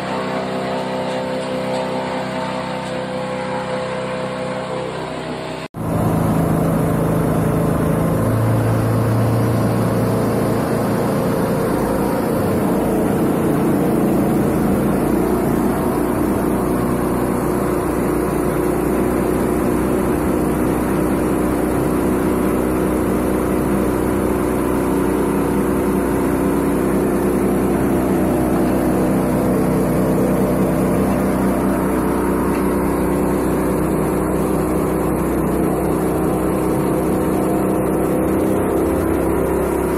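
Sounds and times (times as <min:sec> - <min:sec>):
machine engine droning: 0:00.0 - 0:39.9.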